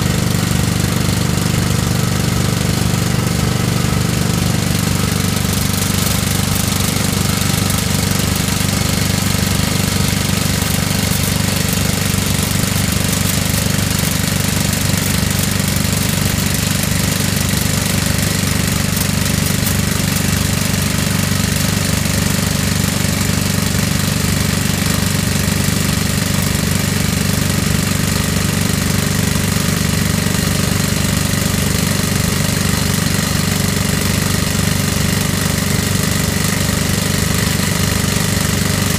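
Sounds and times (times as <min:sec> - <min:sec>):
excavator engine running: 0:00.0 - 0:38.9
hydraulic rock drill hammering: 0:00.0 - 0:38.9.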